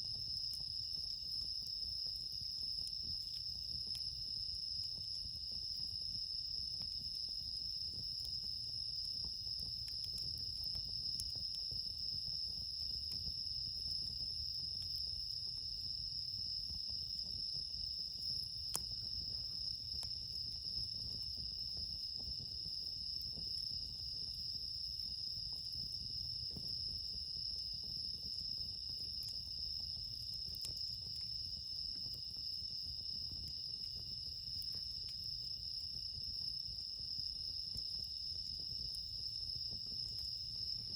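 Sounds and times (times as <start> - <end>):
crickets chirping: 0.0 - 40.9
campfire crackling: 0.1 - 40.9.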